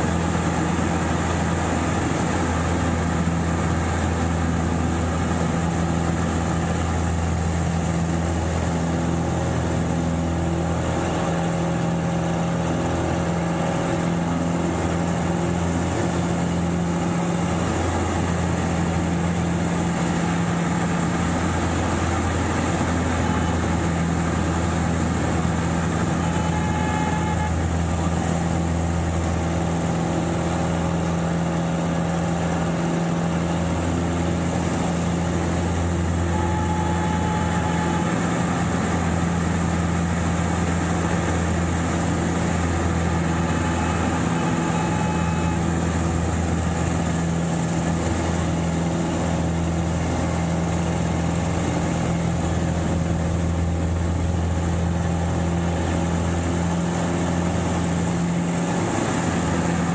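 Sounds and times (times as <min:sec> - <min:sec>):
aircraft engine and propeller: 0:00.0 - 0:59.9.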